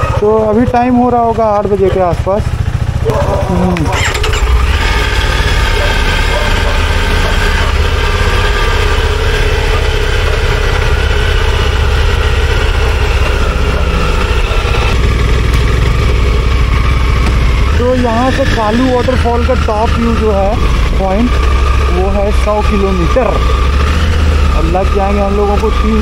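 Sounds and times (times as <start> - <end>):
motorcycle engine idling: 0.0 - 26.0
motorcycle engine starting: 0.0 - 26.0.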